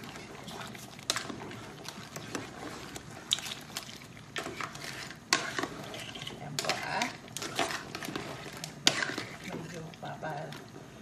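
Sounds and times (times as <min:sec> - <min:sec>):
wooden spatula stirring in a pan: 0:00.0 - 0:11.0.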